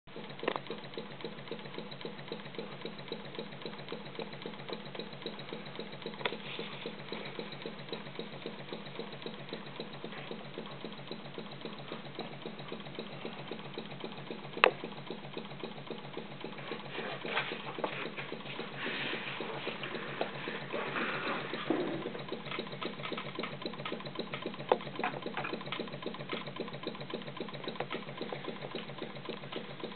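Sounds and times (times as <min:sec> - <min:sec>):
model steam engine running: 0:00.1 - 0:29.9.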